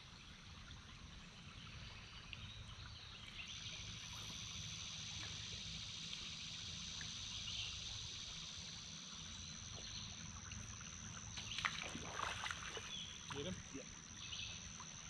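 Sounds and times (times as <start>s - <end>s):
river water trickling over gravel: 0.0s - 15.0s.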